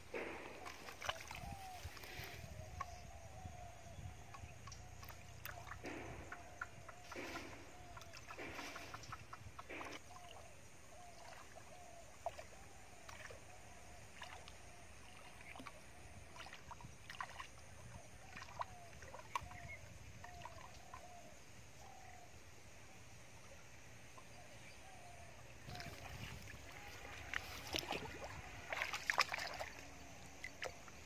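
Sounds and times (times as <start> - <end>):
wading through shallow water: 0.0 - 31.0.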